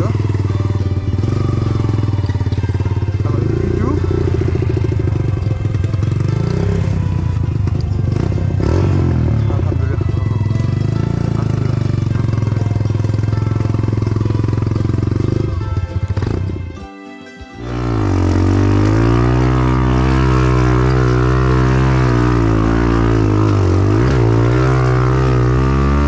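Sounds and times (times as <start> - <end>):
dirt bike engine running: 0.0 - 16.9, 17.5 - 26.0.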